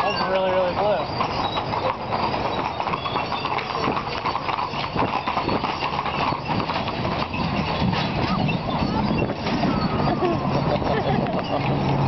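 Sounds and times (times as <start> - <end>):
hooves clip-clopping on pavement: 0.0 - 12.0.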